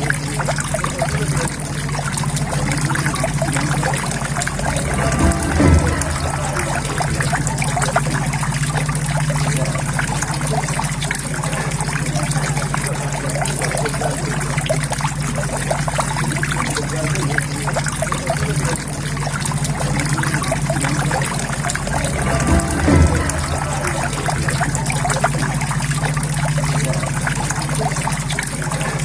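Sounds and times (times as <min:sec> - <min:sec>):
low steady hum: 0:00.0 - 0:29.0
water trickling into a pond: 0:00.0 - 0:29.0.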